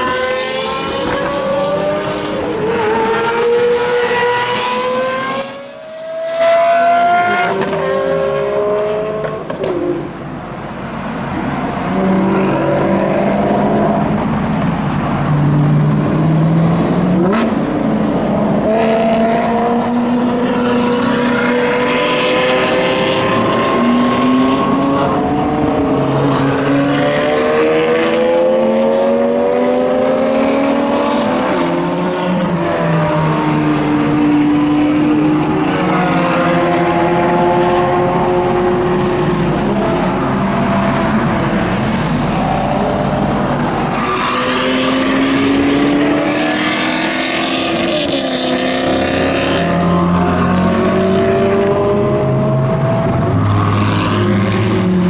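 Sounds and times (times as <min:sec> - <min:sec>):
sports car engines accelerating: 0:00.0 - 0:55.0.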